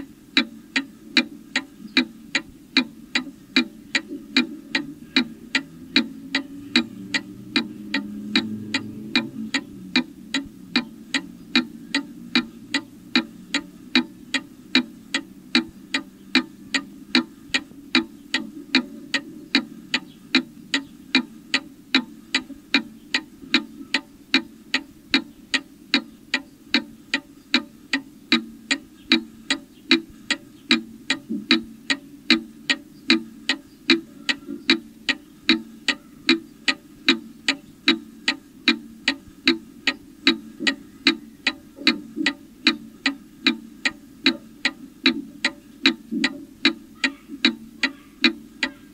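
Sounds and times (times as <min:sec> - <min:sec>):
mechanical clock ticking: 0:00.0 - 0:48.9.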